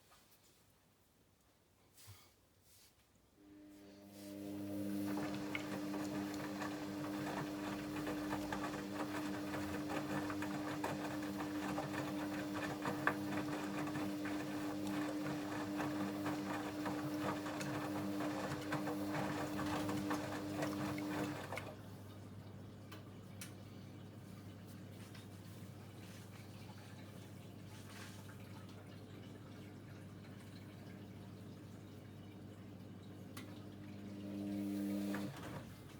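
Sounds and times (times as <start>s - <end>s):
washing machine running: 3.4s - 35.9s.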